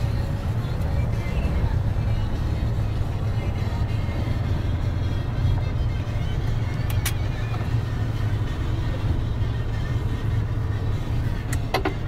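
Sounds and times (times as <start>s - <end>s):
truck engine rumble in cab: 0.0s - 12.0s.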